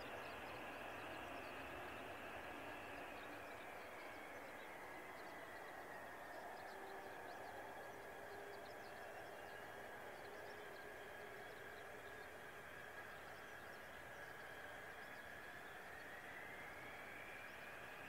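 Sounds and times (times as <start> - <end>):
distant jet engine whine: 0.0 - 18.0.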